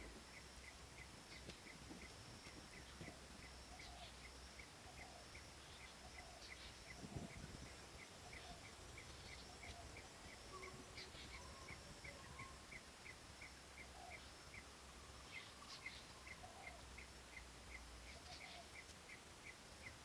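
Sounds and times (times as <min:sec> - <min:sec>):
soft wildlife calls: 0:00.0 - 0:20.0.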